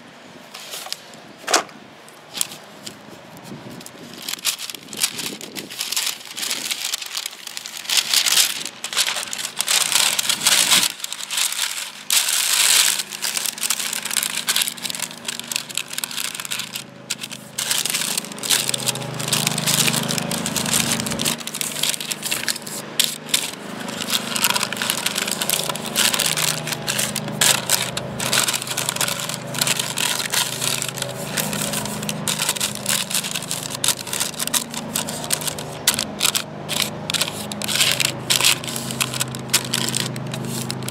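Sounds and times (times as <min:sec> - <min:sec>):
parchment paper crinkling: 0:02.2 - 0:40.9.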